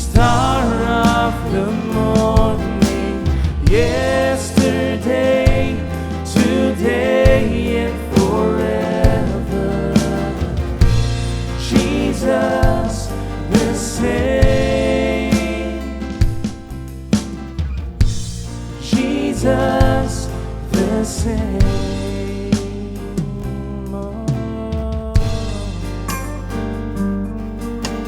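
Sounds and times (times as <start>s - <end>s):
voices singing slow melody: 0.0s - 17.5s, 18.1s - 27.0s
band with bass and drums: 0.0s - 28.0s.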